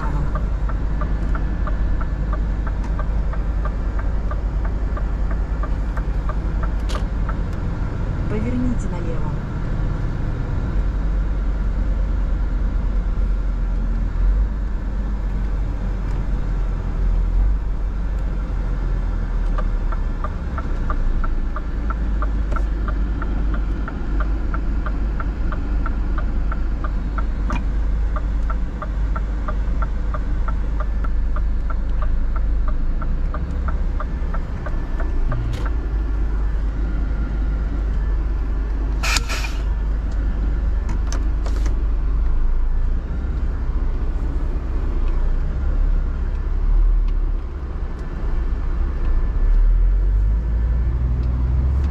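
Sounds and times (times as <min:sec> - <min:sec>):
truck engine and road drone: 0:00.0 - 0:51.9
turn signal ticking: 0:00.0 - 0:51.9.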